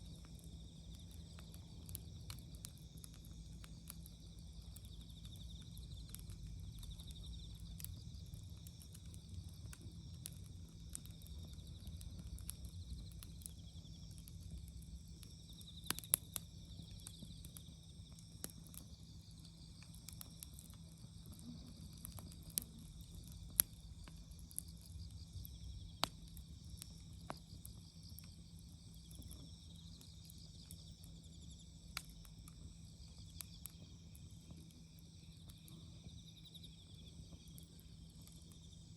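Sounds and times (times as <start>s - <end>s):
campfire crackling and popping: 0.0s - 38.9s
insects chirping: 0.0s - 38.9s.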